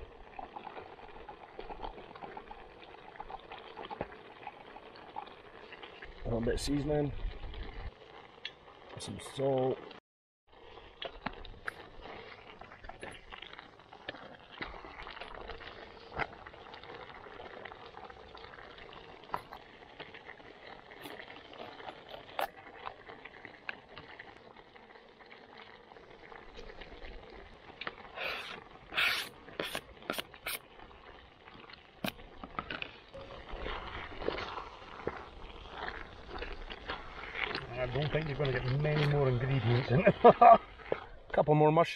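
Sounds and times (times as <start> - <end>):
thick sauce bubbling: 0.0 - 41.9.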